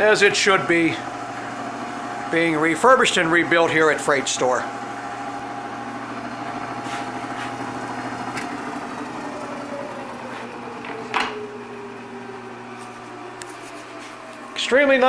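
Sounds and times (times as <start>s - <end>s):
dough mixer motor humming: 0.0s - 15.0s.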